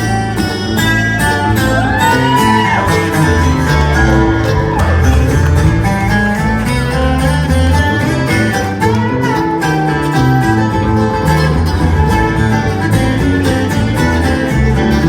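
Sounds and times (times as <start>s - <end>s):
plucked string instruments: 0.0s - 15.0s
steady bass line: 0.0s - 15.0s.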